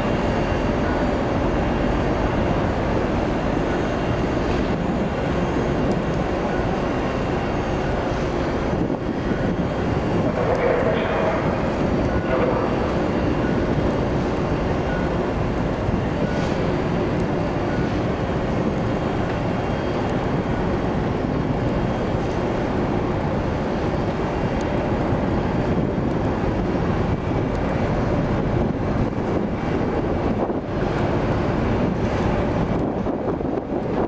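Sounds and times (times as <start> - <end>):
wind noise on microphone: 0.0 - 34.0.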